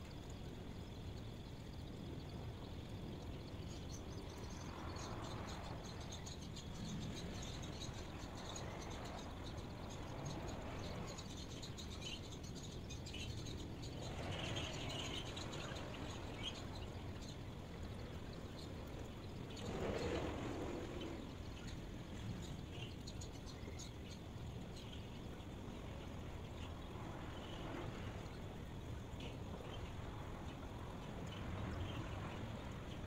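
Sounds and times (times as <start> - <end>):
outdoor ambient noise: 0.0 - 33.0
faint bird chirps: 1.1 - 33.0.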